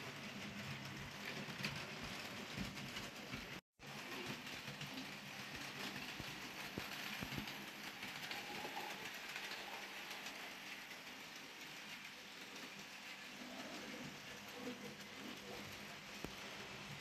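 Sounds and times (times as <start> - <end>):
model train whirring: 0.3 - 17.0.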